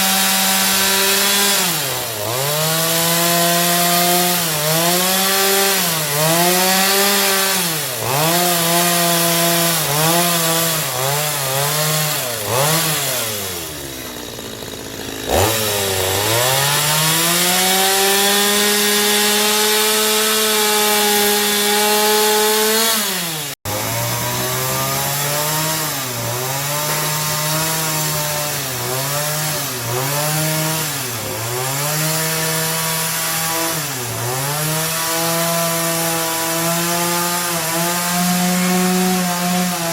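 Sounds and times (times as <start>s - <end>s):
electric saw cutting wood: 0.0s - 39.9s.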